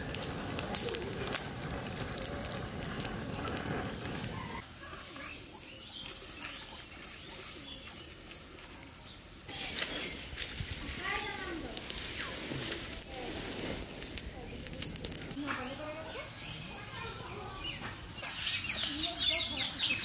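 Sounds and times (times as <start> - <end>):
birds calling: 0.0 - 20.0
fire crackling and popping: 0.0 - 20.0.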